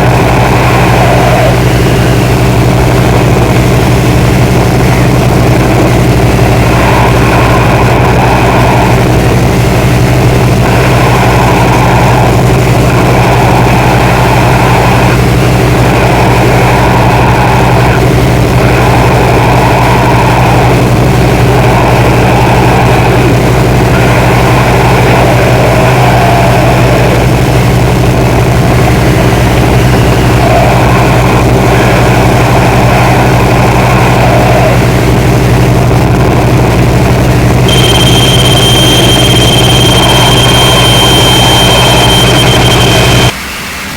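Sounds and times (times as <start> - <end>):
low droning hum: 0.0 - 43.4
thin high whine: 0.0 - 43.5.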